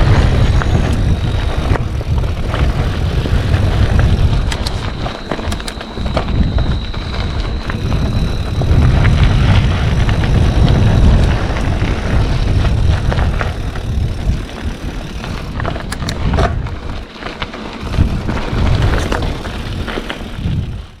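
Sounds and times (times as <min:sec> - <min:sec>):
bike clicks and rattles: 0:00.0 - 0:21.0
cricket trill: 0:00.0 - 0:21.0
tyres on dirt: 0:00.0 - 0:21.0
wind rumble on microphone: 0:00.0 - 0:21.0.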